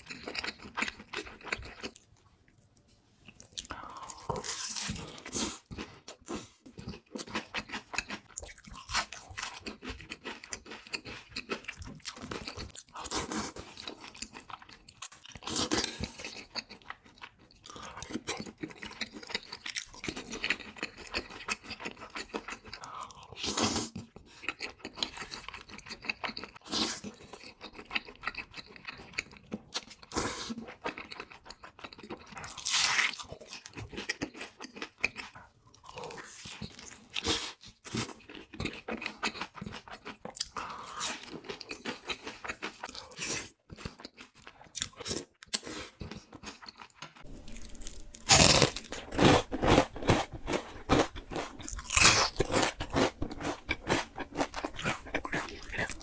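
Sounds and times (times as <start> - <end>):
crunching and chewing fried food: 0.0 - 56.0.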